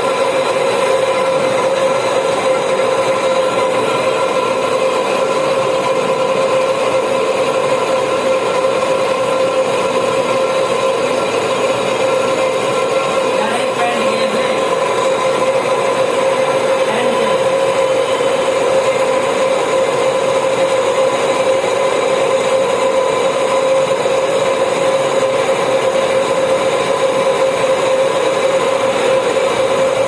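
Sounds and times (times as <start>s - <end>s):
lathe running: 0.0s - 30.0s.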